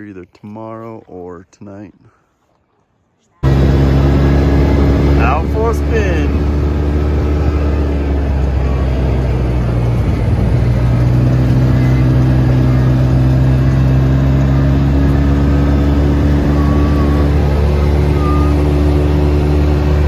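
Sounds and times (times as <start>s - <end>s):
side-by-side engine running: 3.4s - 20.0s.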